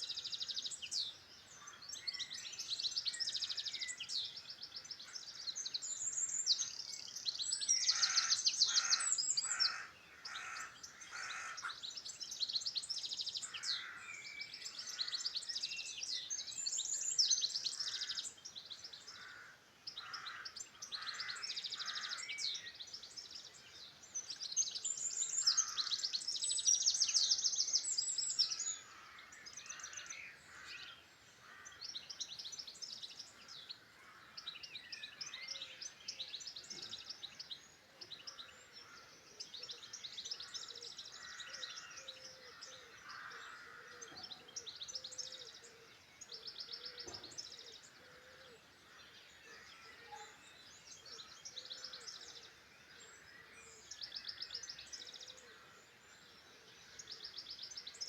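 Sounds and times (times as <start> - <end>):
songbirds trilling and chirping: 0.0 - 58.0.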